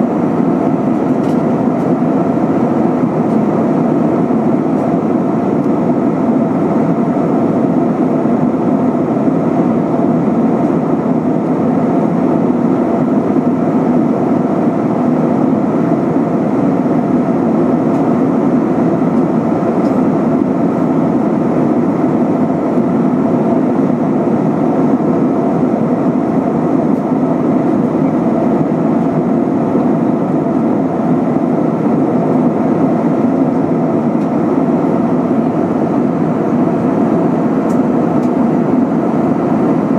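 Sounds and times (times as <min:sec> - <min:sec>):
airflow over fuselage: 0:00.0 - 0:39.9
jet engines rumbling: 0:00.0 - 0:39.9.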